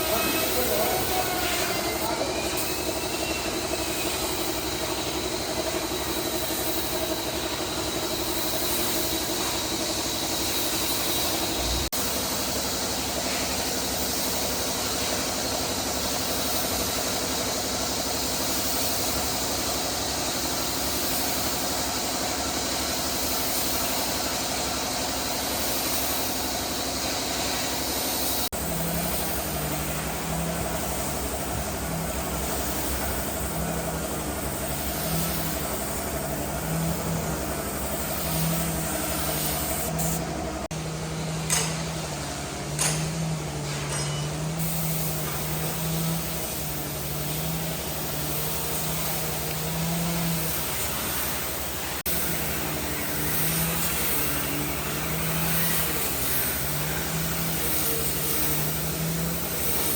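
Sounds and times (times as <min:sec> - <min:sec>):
motor running: 0:00.0 - 0:59.9.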